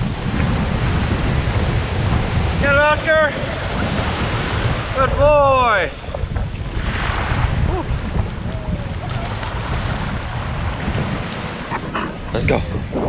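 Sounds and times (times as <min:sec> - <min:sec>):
ocean surf washing: 0:00.0 - 0:13.0
wind buffeting microphone: 0:00.0 - 0:13.0.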